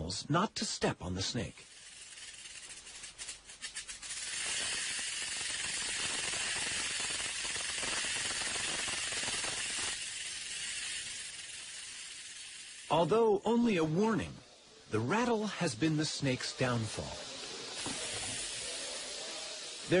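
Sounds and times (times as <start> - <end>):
rattlesnake tail rattling: 1.4 - 20.0.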